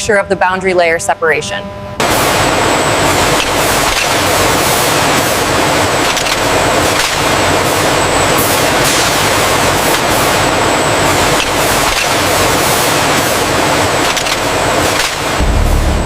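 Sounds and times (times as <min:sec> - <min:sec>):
mechanical roar with high whine: 0:00.0 - 0:16.0.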